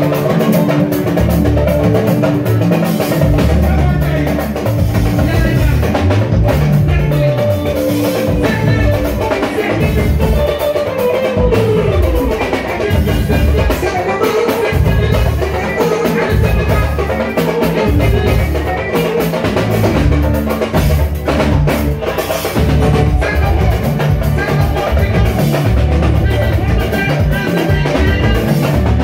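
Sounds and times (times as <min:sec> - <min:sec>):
drum kit with heavy bass drum: 0:00.0 - 0:29.0
electric guitar: 0:00.0 - 0:29.0
talking drum: 0:00.0 - 0:29.0.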